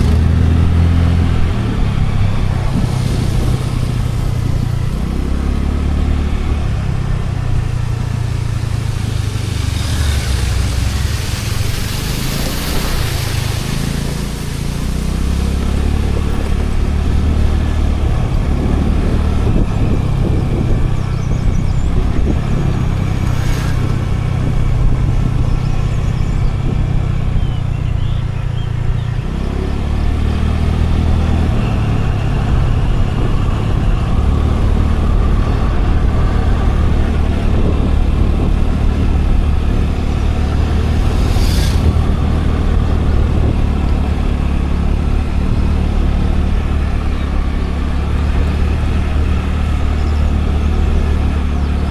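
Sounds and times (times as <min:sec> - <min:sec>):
road noise: 0:00.0 - 0:51.9
scooter engine running: 0:00.0 - 0:51.9.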